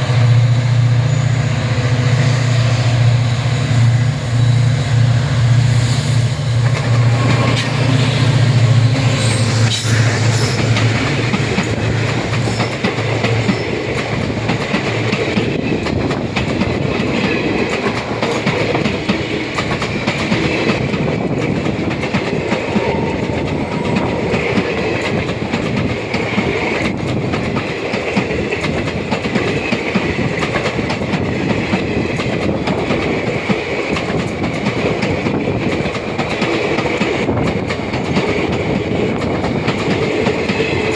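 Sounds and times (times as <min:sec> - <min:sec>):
diesel train engine drone: 0:00.0 - 0:40.9
train wheels clattering over rails: 0:00.0 - 0:40.9.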